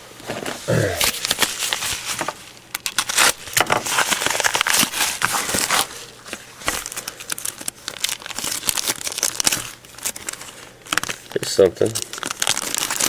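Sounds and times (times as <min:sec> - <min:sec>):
mail packaging crinkling and rustling: 0:00.0 - 0:13.0.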